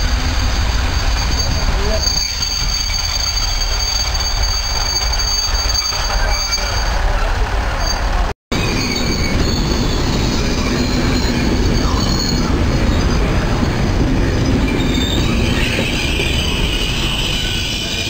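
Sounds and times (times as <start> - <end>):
train wheels rumbling on rails: 0.0 - 18.0
metallic wheel squeal: 0.4 - 7.0, 7.8 - 13.8, 14.5 - 18.0.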